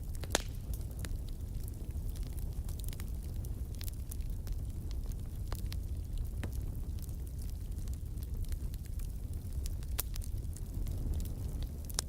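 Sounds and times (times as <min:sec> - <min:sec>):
fire crackling and popping: 0:00.0 - 0:12.0
fire rumbling in fireplace: 0:00.0 - 0:12.0.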